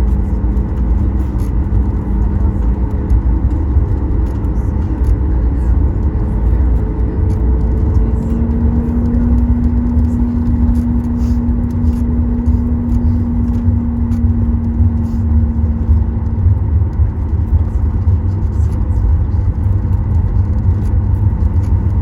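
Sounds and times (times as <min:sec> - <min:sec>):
aircraft engines idling rumble: 0:00.0 - 0:22.0
steady hum: 0:00.0 - 0:22.0
wheels rolling on taxiway: 0:00.0 - 0:22.0.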